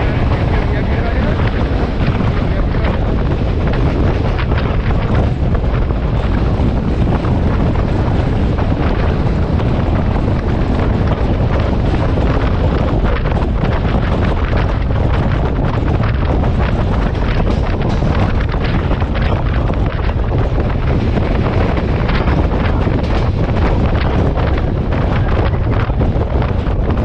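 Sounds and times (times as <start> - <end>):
train running on rails: 0.0 - 27.0
wind buffeting microphone: 0.0 - 27.0.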